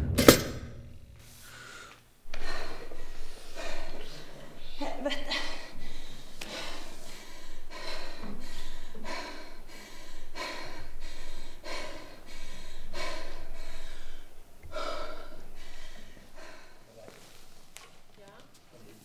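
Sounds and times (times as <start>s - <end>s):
woman breathing hard: 1.2s - 18.1s.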